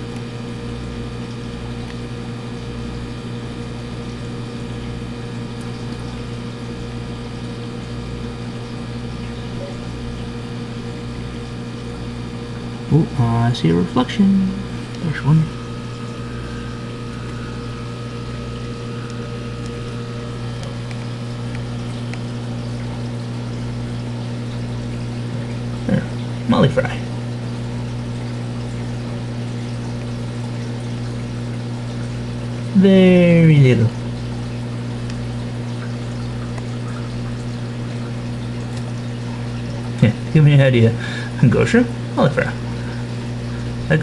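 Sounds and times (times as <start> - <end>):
aquarium pump humming: 0.0 - 44.0
moving water: 0.0 - 44.0.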